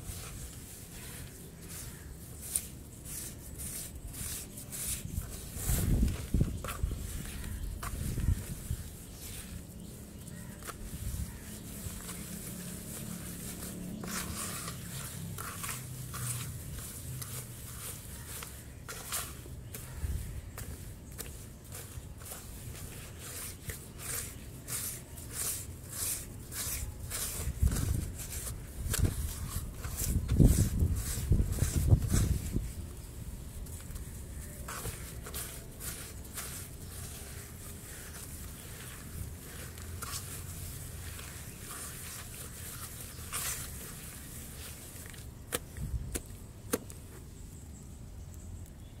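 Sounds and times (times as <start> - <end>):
fingers pressing into sand: 0.0 - 47.3
hand scraping damp sand: 0.0 - 47.3.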